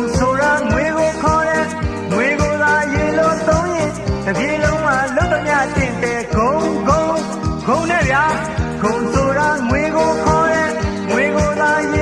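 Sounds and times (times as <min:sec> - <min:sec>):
pop song singing over a band: 0:00.0 - 0:12.0.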